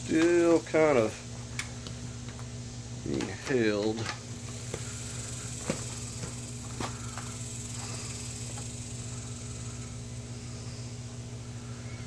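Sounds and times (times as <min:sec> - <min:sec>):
low hum: 0:00.0 - 0:12.0
high hiss: 0:02.1 - 0:12.0.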